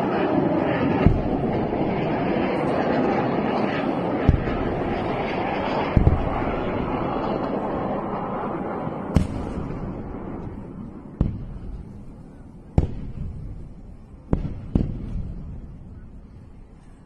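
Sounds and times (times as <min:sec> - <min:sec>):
distant explosions with echo: 0:00.0 - 0:16.7
low rumble: 0:00.1 - 0:17.0.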